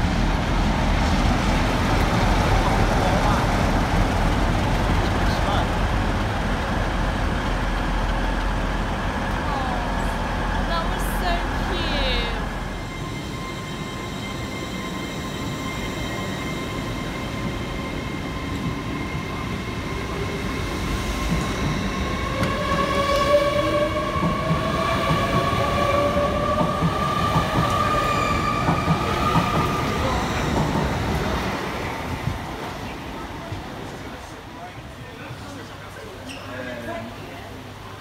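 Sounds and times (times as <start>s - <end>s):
train wheels rumbling on rails: 0.0s - 35.8s.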